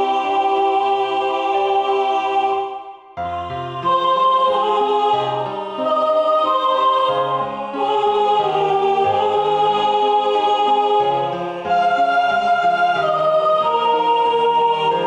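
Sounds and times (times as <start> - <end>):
organ-like vocal lines: 0.0 - 15.0.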